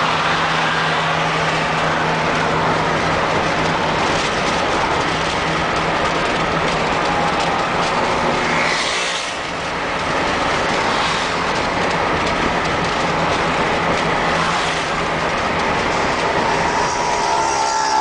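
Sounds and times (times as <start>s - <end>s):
car engine hum: 0.0s - 18.0s
tyre and road noise: 0.0s - 18.0s.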